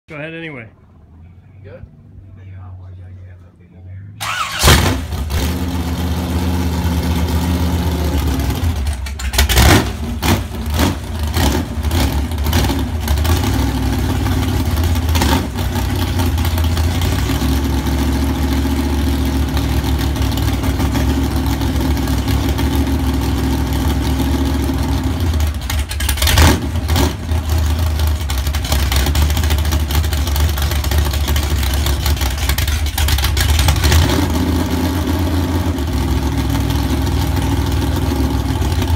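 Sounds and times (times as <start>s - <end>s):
engine throttle blips: 0.7s - 38.9s
unmuffled engine running: 0.9s - 38.9s.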